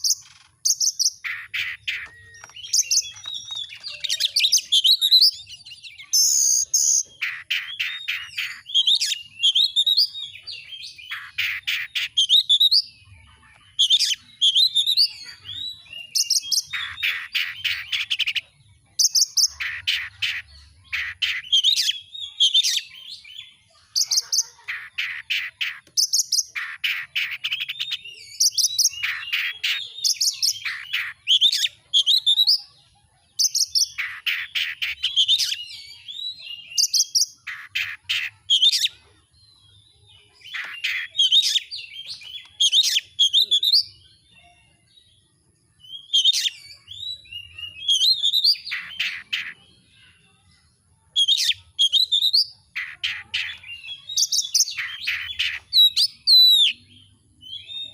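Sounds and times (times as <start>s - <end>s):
songbird whistling and trilling: 0.0s - 32.8s, 33.4s - 39.1s, 39.7s - 45.0s, 45.8s - 49.7s, 51.1s - 57.9s.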